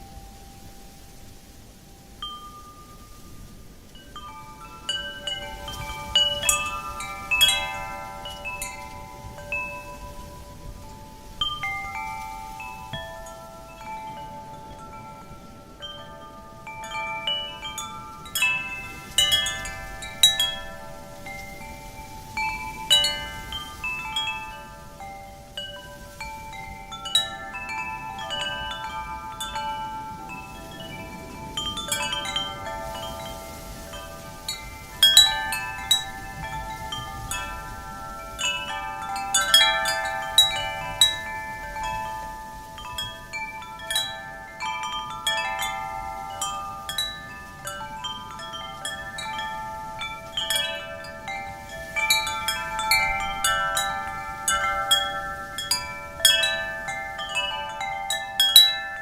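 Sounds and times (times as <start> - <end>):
faint wind: 0.0 - 59.0
wind chimes ringing: 0.0 - 59.0.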